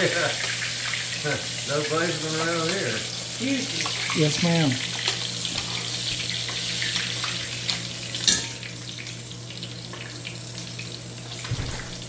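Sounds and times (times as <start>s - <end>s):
fish sizzling in hot oil: 0.0s - 11.4s.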